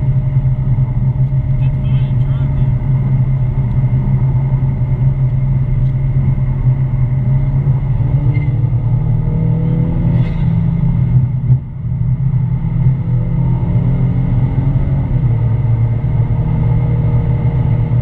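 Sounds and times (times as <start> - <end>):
car engine low hum: 0.0 - 18.0.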